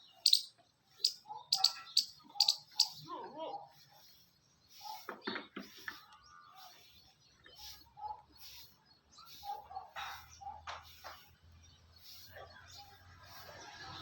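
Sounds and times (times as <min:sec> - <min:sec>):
bird chirps and calls: 0:00.0 - 0:13.5.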